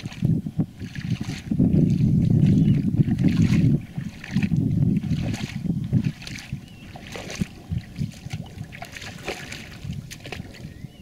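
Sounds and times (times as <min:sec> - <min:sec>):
wading through shallow water: 0:00.0 - 0:11.0
wind buffeting microphone: 0:00.0 - 0:11.0.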